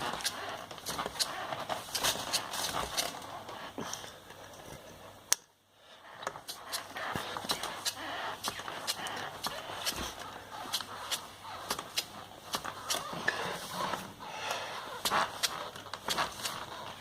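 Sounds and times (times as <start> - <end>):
rustling scraping noise: 0.0 - 5.2, 6.4 - 17.0.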